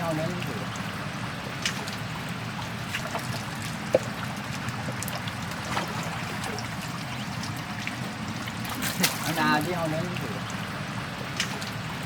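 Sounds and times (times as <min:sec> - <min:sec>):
low engine rumble: 0:00.0 - 0:12.0
river water trickling and splashing: 0:00.0 - 0:12.0.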